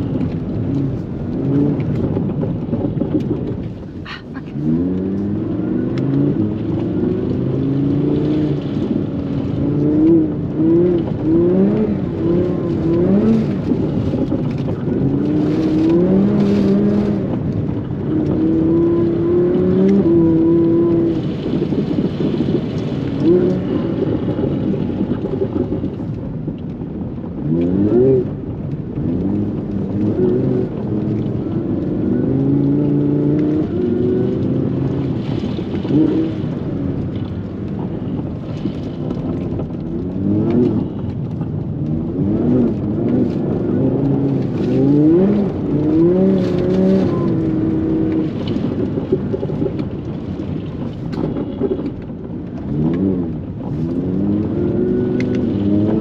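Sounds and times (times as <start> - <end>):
car engine revving: 0.0 - 26.1, 27.2 - 56.0.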